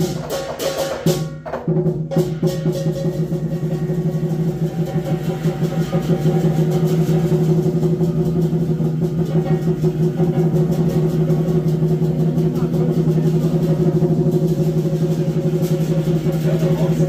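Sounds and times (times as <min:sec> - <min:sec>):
drum fast roll: 0:00.0 - 0:17.0.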